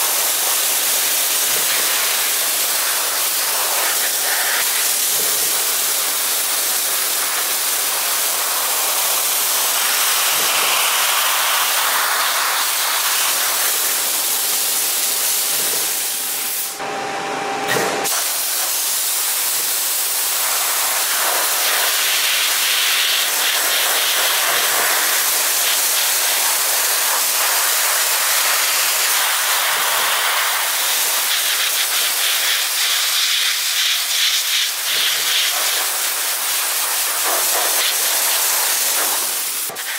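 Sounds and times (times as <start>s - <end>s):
dry ice blaster hissing: 0.0s - 16.8s, 17.8s - 39.9s.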